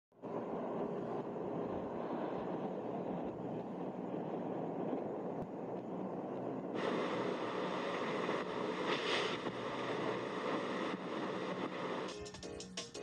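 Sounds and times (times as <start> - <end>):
wind noise on microphone: 0.1 - 12.1.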